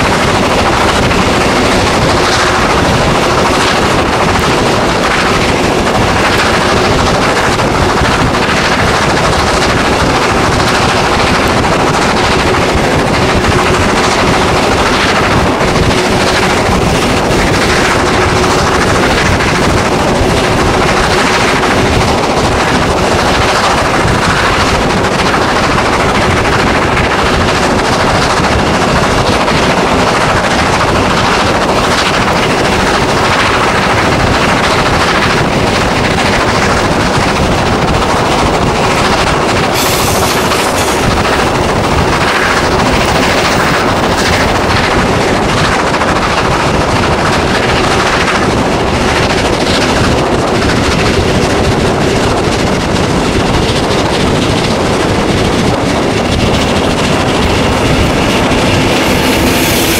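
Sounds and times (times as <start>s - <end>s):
steam locomotive chuffing: 0.0s - 59.9s
train running on rails: 0.0s - 59.9s.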